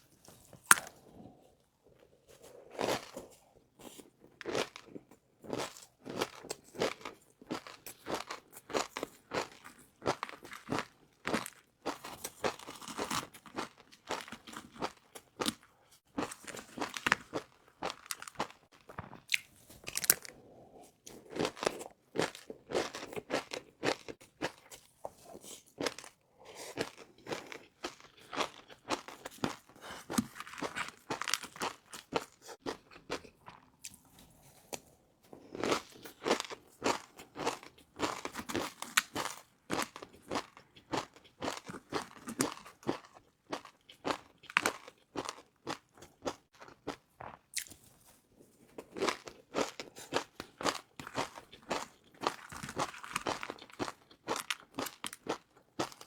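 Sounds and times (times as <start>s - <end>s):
chewing crispy noodles: 0.0s - 56.0s.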